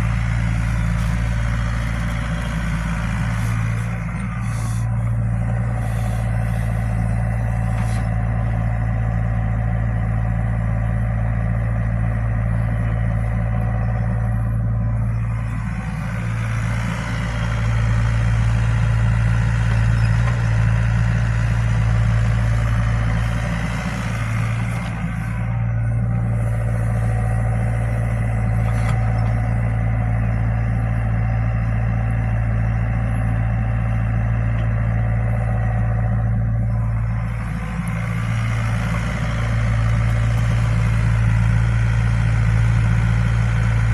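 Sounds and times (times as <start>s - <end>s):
excavator diesel engine droning: 0.0s - 43.9s.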